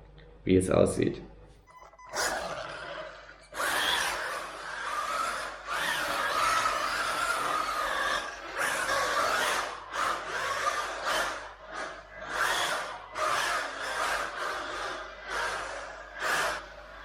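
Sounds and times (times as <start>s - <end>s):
rc car motor whining: 2.0s - 17.0s.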